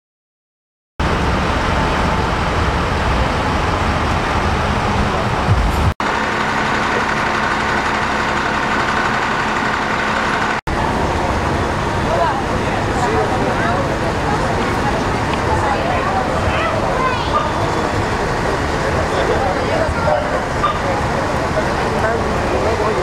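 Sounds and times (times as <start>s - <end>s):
fire truck engines running: 1.0s - 23.0s
steady higher hum: 1.0s - 23.0s.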